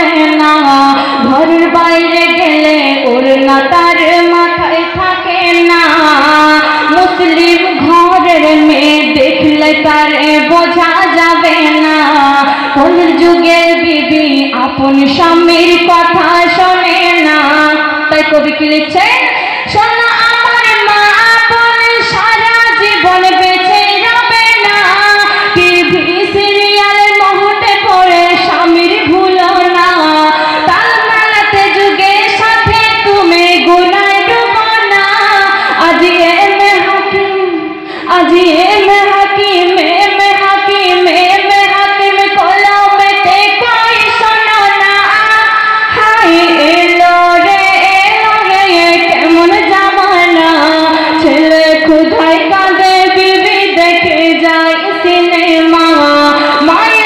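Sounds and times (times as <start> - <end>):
woman singing into a microphone: 0.0 - 57.0.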